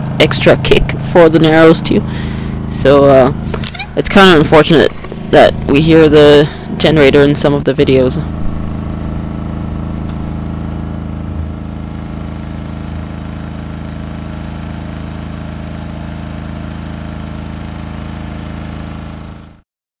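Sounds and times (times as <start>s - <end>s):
portable generator running: 0.0s - 19.6s.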